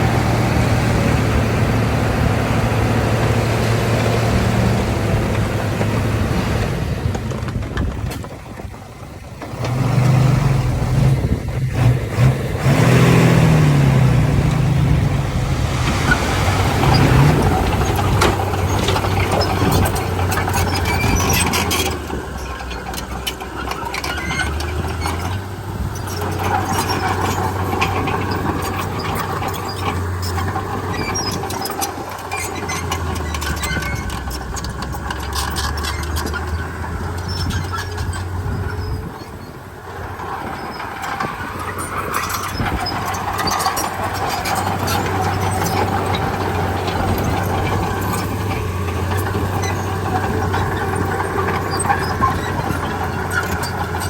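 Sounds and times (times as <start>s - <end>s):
bulldozer diesel engine revving: 0.0s - 54.0s
steel tracks squeaking and clanking: 3.2s - 54.0s.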